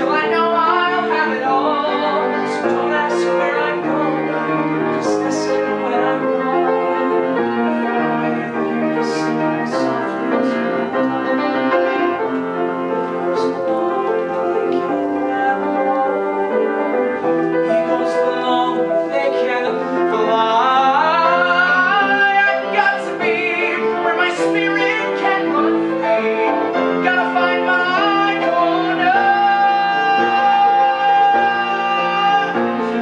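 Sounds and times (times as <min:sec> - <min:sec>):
man singing: 0:00.0 - 0:12.4, 0:13.2 - 0:33.0
piano accompaniment: 0:00.0 - 0:33.0.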